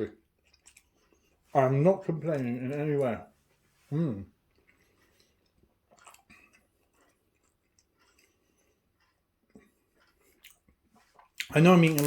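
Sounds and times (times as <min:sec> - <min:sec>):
person eating pastry: 0:00.1 - 0:12.0.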